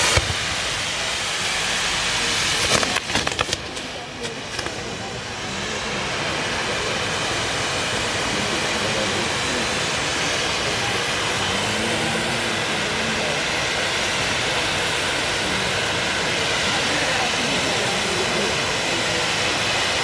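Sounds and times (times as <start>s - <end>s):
crowd murmur: 0.0s - 20.0s
fireworks hissing roar: 0.0s - 20.0s.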